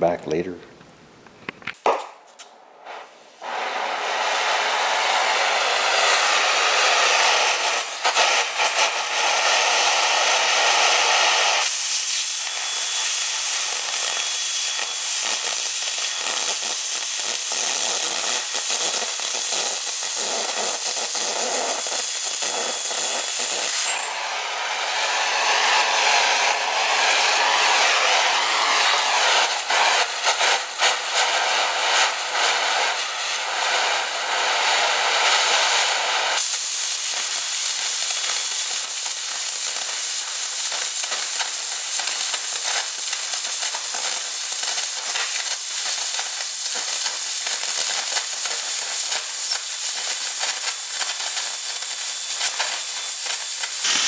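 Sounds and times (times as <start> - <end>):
cutting torch hissing: 1.8 - 54.0
oxygen jet rushing hiss: 2.2 - 54.0.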